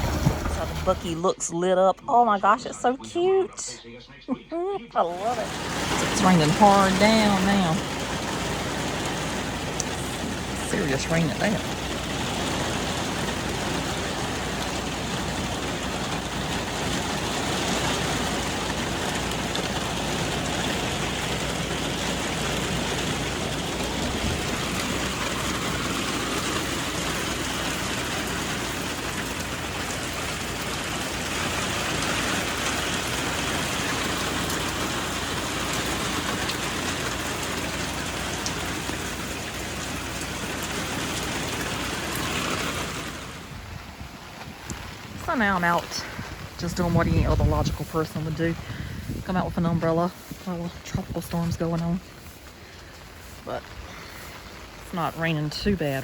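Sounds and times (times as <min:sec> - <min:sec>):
hard rain falling: 0:00.0 - 0:01.2, 0:05.1 - 0:56.0.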